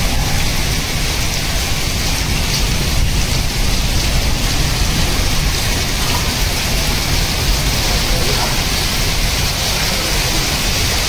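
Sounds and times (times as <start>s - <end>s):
heavy rain on concrete roof: 0.0s - 11.0s.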